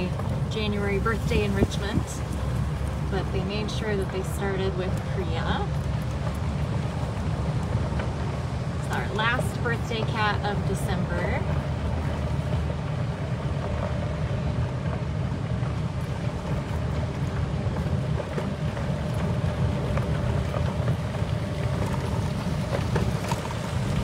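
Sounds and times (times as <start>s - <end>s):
faint steady hum: 0.0s - 24.0s
vehicle rumbling on dirt road: 0.0s - 24.0s.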